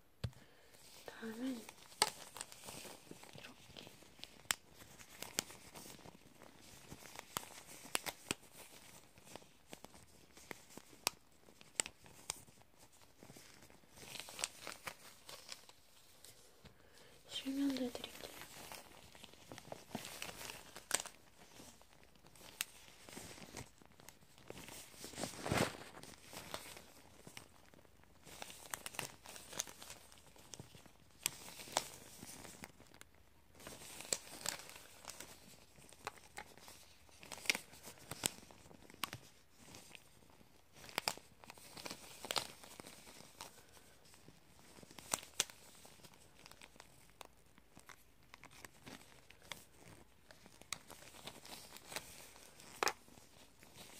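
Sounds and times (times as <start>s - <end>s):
thread rustling and crinkling: 0.0s - 53.9s.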